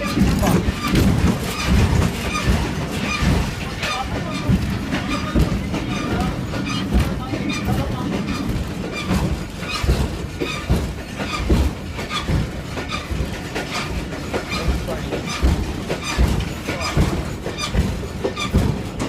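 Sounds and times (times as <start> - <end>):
train running rumble: 0.0 - 19.0
train wheels knocking and clanking: 0.0 - 19.0.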